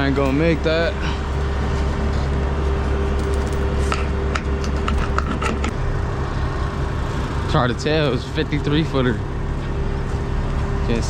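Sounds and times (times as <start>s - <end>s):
constant hum: 0.0s - 11.0s
truck diesel engine rumbling: 0.0s - 11.0s.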